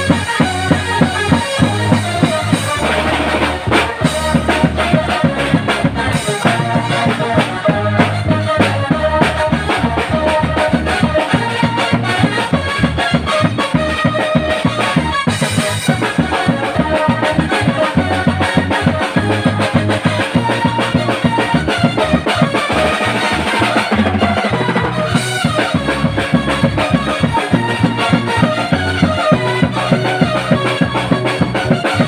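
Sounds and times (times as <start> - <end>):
music with fast drum beat: 0.0 - 32.0.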